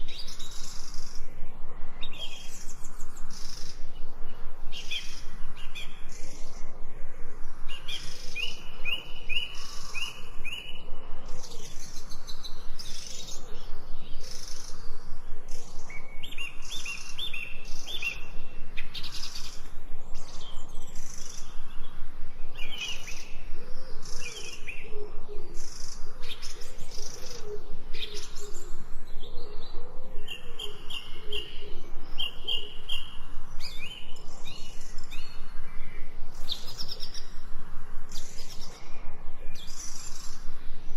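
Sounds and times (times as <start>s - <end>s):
wild birds singing and chirping: 0.0s - 40.9s.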